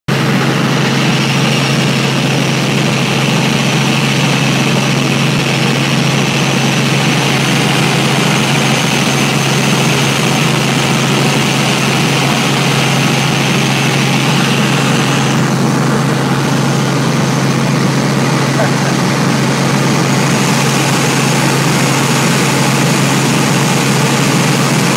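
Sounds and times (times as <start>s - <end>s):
helicopter engine and rotors: 0.1s - 24.9s.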